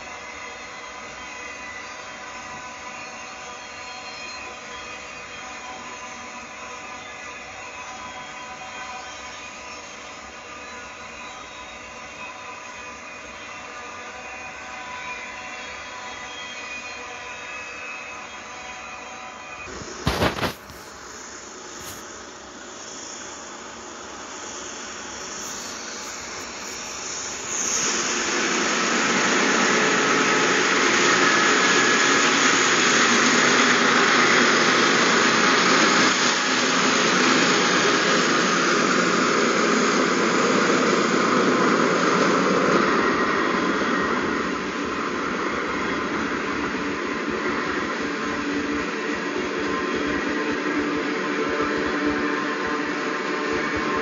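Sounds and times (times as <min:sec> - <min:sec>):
locomotive engine noise: 0:00.0 - 0:54.0.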